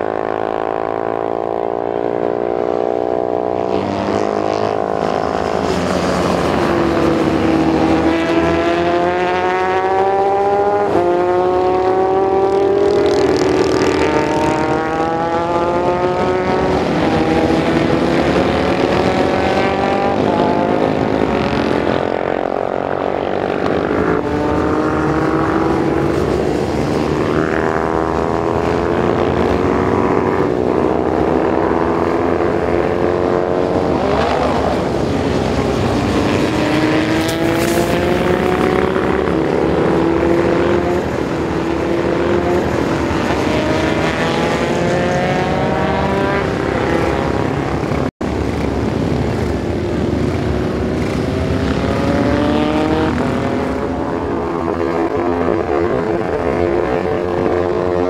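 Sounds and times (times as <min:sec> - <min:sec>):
racing motorcycles accelerating: 0:00.0 - 0:58.0.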